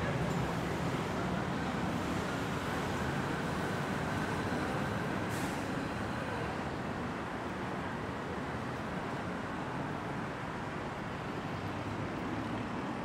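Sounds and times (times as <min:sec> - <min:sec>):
city road traffic hum: 0:00.0 - 0:13.0.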